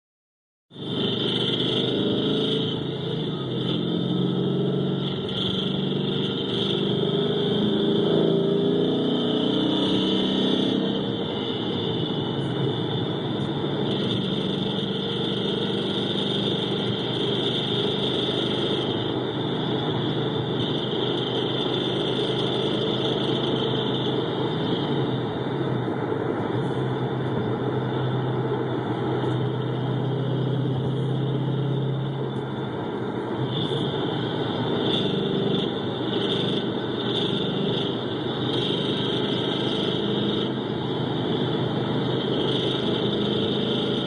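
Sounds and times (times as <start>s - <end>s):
car engine running: 0.7s - 44.0s.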